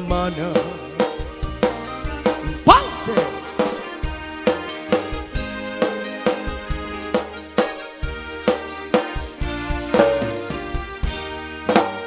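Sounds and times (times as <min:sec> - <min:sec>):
live country band playing: 0:00.0 - 0:12.0.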